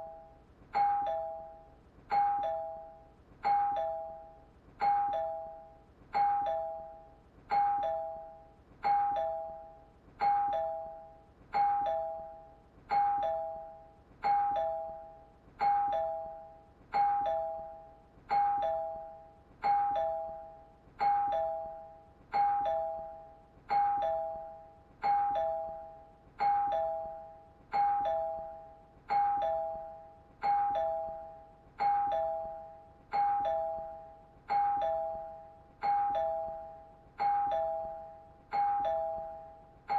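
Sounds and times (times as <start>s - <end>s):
doorbell ding-dong chime: 0.0s - 39.9s.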